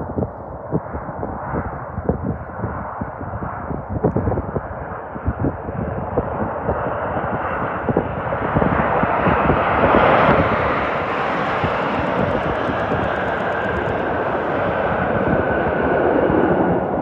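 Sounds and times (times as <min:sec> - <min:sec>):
jet engines on landing: 0:00.0 - 0:17.0.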